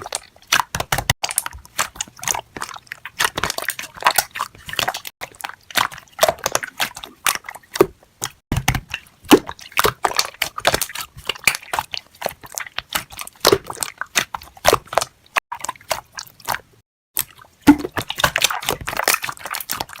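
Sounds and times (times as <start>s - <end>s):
crunchy eating and chewing: 0.0s - 8.4s, 9.4s - 20.0s.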